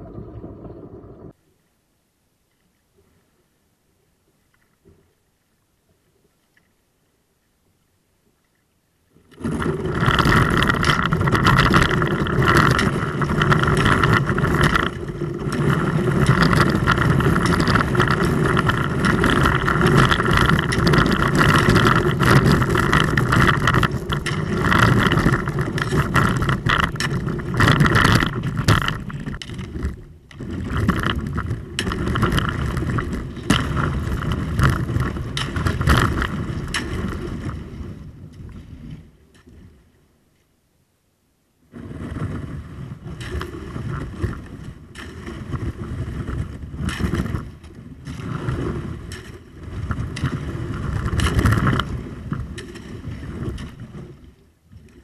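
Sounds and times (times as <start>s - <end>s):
kayak hull crackling through ice: 0.0s - 1.4s, 8.3s - 40.5s, 41.7s - 55.0s.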